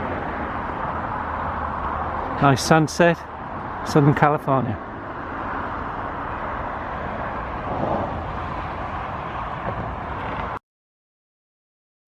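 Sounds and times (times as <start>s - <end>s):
distant traffic hum: 0.0s - 10.6s.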